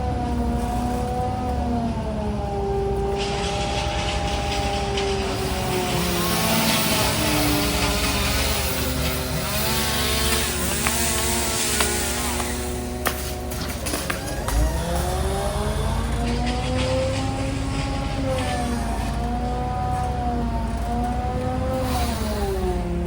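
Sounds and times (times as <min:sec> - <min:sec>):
low drone: 0:00.0 - 0:23.0
machinery engines running: 0:00.0 - 0:23.0.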